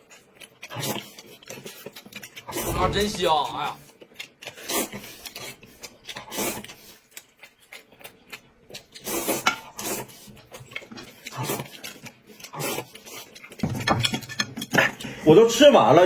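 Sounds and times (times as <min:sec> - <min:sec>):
noodles being slurped and chewed: 0:00.0 - 0:16.0.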